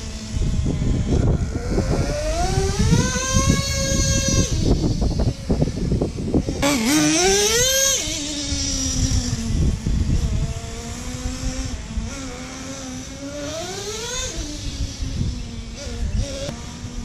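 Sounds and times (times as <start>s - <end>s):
rc truck engine revving: 0.0s - 17.0s.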